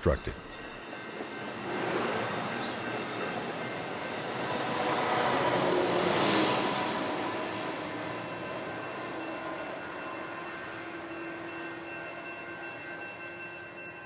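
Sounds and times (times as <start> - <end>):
passenger train passing: 0.1 - 13.0.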